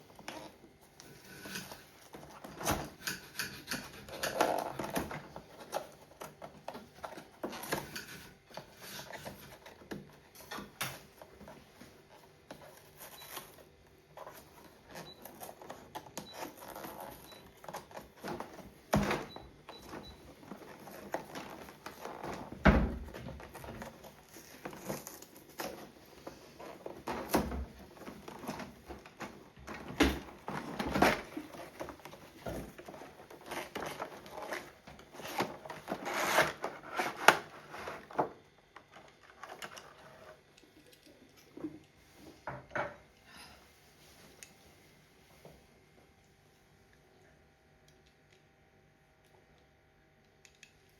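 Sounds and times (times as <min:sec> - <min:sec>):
rustling plastic and cardboard packaging: 0:00.0 - 0:40.8.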